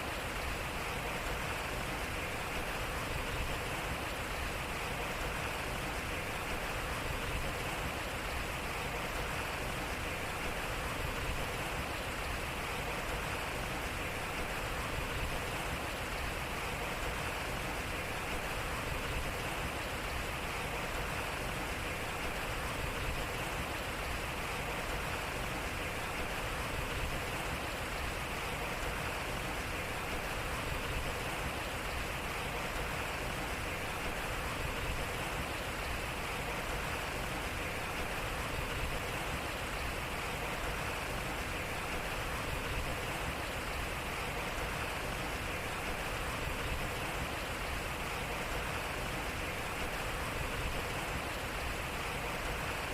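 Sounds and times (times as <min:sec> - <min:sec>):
water splashing at waterwheel: 0:00.0 - 0:52.9.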